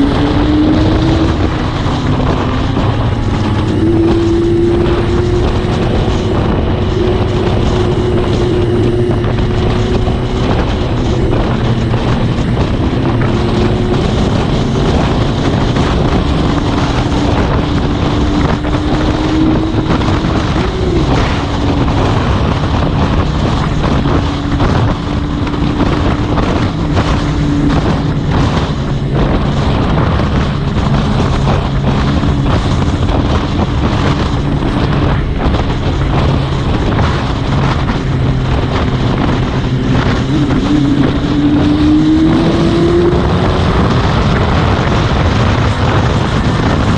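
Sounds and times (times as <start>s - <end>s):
motorcycle engine cruising: 0.0s - 46.9s
wind noise on microphone: 0.0s - 46.9s.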